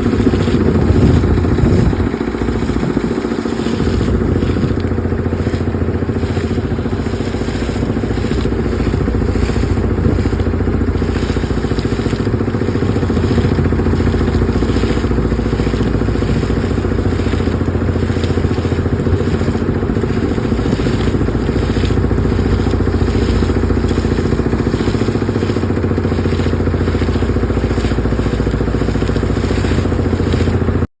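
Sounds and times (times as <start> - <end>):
loud engine drone: 0.0 - 30.9.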